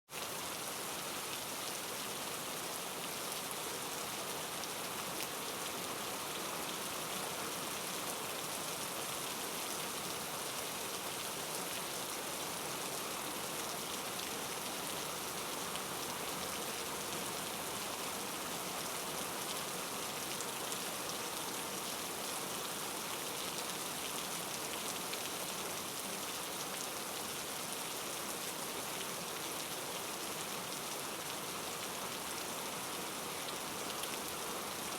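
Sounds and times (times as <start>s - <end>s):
steady rain hiss: 0.2s - 34.9s.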